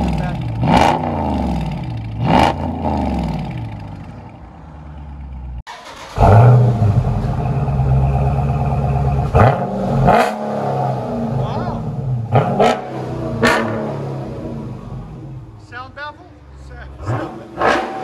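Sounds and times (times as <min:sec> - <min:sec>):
car engine running with rev blips: 0:00.0 - 0:15.6, 0:17.0 - 0:18.0
car engine revving: 0:00.0 - 0:15.8, 0:16.7 - 0:18.0.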